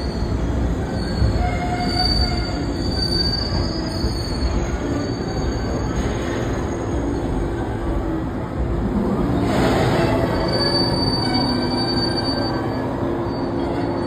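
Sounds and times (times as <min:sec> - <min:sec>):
wheel and brake squeal: 0:00.0 - 0:07.5, 0:09.4 - 0:14.0
electric train running slowly: 0:00.0 - 0:14.0.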